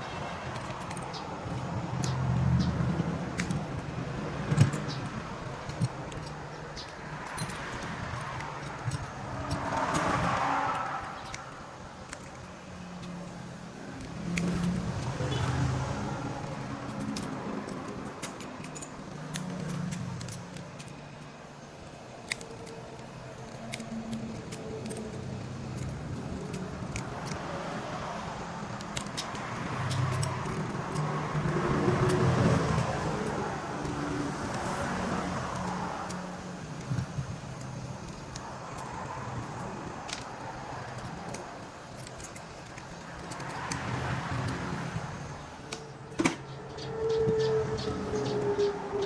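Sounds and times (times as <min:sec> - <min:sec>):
road traffic engine hum: 0:00.0 - 0:49.0
small tools tapping a phone: 0:00.0 - 0:49.0.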